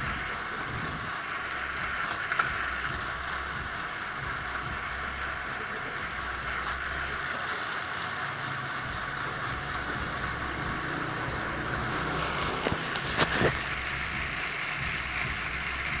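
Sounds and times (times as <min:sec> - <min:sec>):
machine running steadily: 0:00.0 - 0:16.0.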